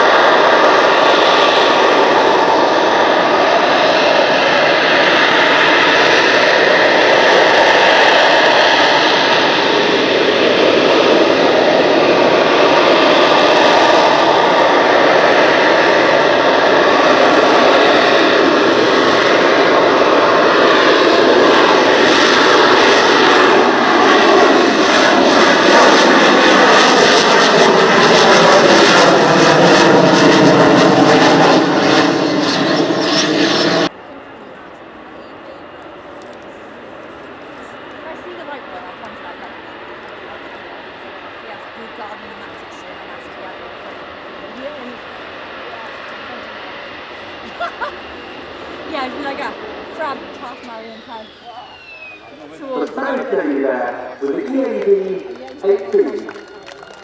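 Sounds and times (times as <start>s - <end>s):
jet engine high whine: 0.0s - 57.0s
jet engine roar: 0.0s - 57.0s.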